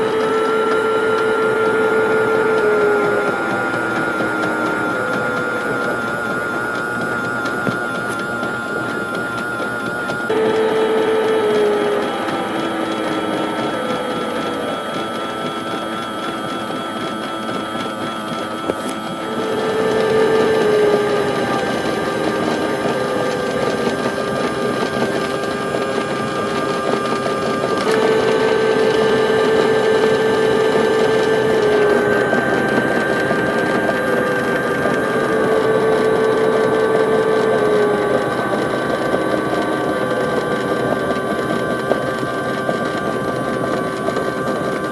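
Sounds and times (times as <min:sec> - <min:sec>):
small electric motor whining: 0:00.0 - 0:44.9.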